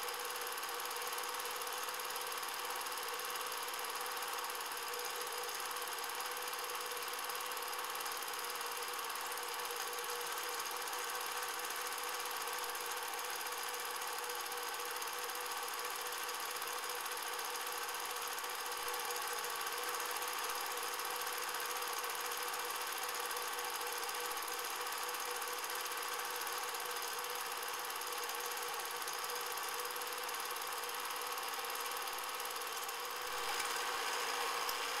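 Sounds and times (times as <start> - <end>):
film projector whirring: 0.0 - 35.0.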